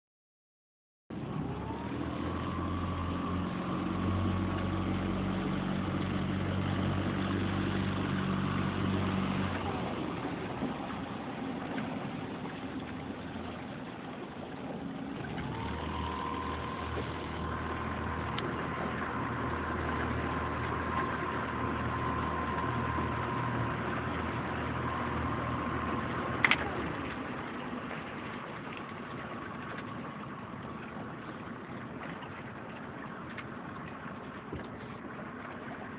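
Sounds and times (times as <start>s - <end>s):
motorboat engine whining: 1.1s - 35.9s.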